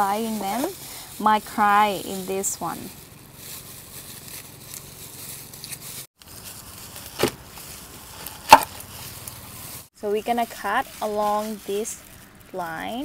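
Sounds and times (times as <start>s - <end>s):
plastic gloves rustling: 0.0s - 13.0s.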